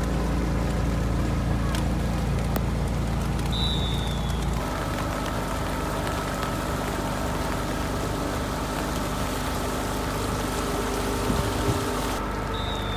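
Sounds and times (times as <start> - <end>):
engine humming: 0.0 - 12.9.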